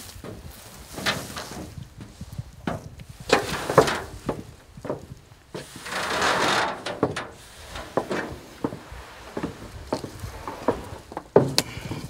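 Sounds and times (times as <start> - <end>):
body scraping over boards: 0.0 - 12.0
footsteps on trailer ramp: 0.0 - 12.0.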